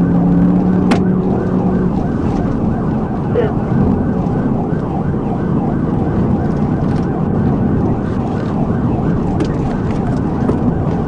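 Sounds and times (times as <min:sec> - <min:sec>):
engine and road noise: 0:00.0 - 0:11.0
police siren yelping: 0:00.0 - 0:11.0.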